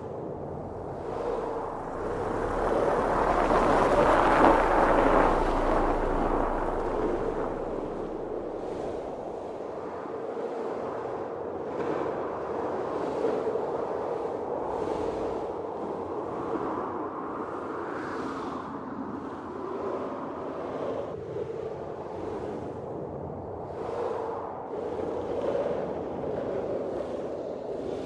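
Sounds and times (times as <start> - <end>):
blizzard wind gusting: 0.0 - 28.0.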